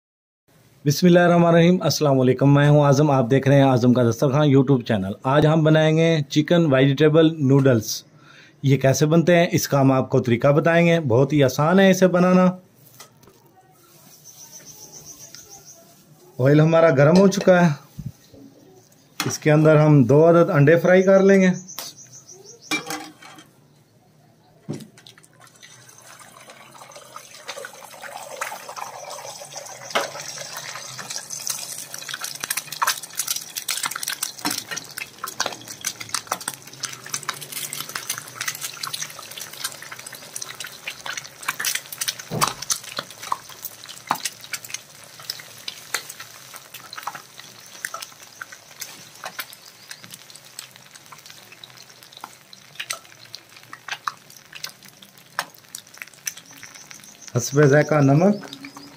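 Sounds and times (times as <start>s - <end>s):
eggs sizzling in oil: 9.6s - 23.8s, 24.7s - 58.9s.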